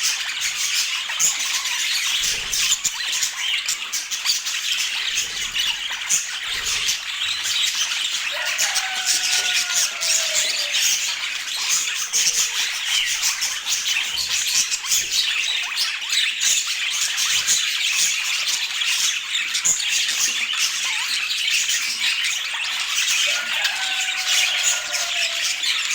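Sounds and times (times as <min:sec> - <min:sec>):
budgerigars chattering: 0:00.0 - 0:25.9.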